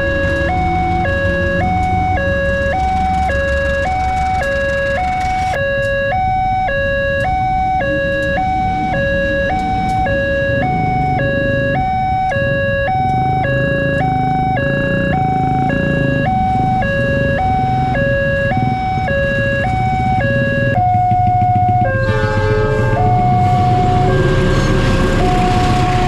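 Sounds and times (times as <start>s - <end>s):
low rumble of engines: 0.0s - 26.0s
two-tone crossing alarm: 0.0s - 26.0s.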